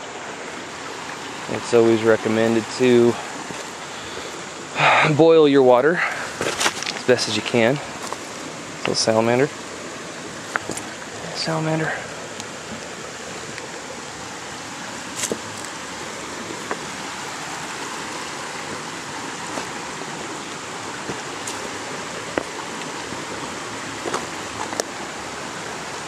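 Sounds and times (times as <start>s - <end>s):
creek water running over rocks: 0.0s - 26.0s.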